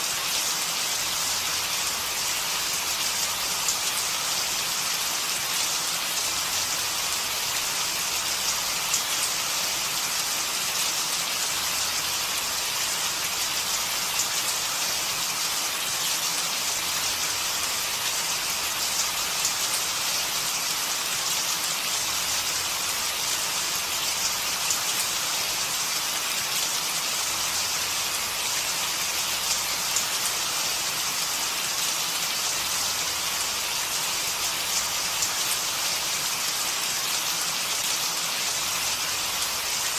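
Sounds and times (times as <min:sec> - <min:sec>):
steady rain with dripping: 0:00.0 - 0:39.9.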